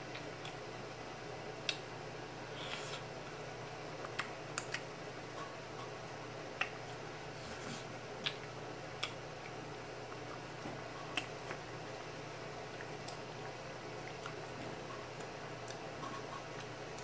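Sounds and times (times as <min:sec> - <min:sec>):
chewing and finger-licking: 0:00.0 - 0:00.7, 0:01.6 - 0:02.0, 0:02.6 - 0:07.0, 0:08.2 - 0:17.0.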